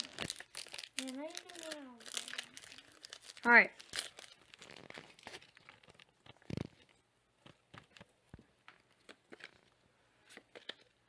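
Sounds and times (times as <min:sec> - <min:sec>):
trading cards being handled: 0:00.0 - 0:11.0.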